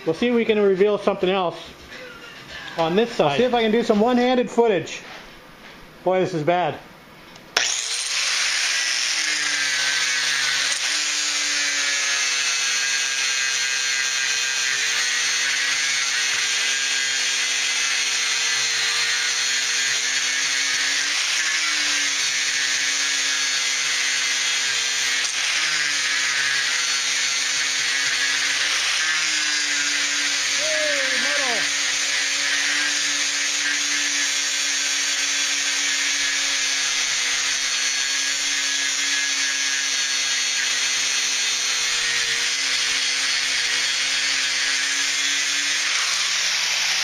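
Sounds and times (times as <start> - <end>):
angle grinder grinding filler: 7.5 - 47.0.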